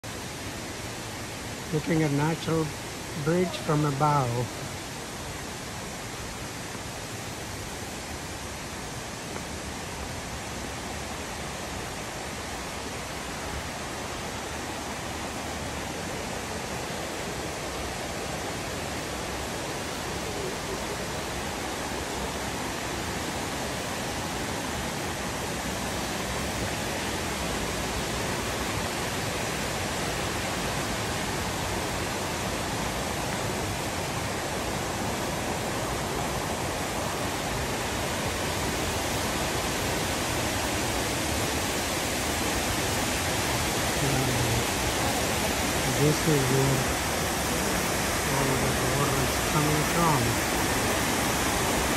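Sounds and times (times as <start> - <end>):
waterfall and creek rushing: 0.0 - 51.9.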